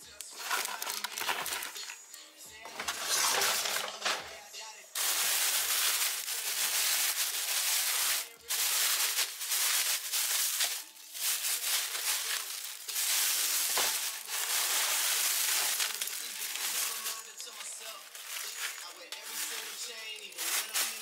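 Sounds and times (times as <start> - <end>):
plastic bag crinkling and rustling: 0.3 - 2.0, 2.6 - 4.4, 5.0 - 21.0.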